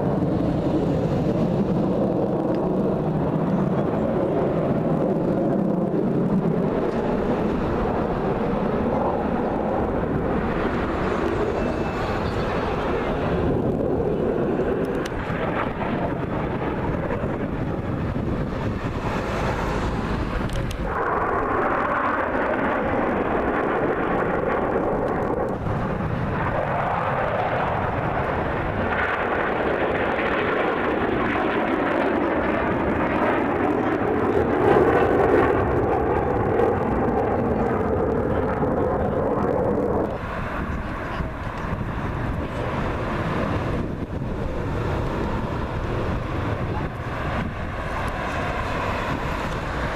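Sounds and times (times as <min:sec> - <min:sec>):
aircraft engine rumble: 0:00.0 - 0:49.9.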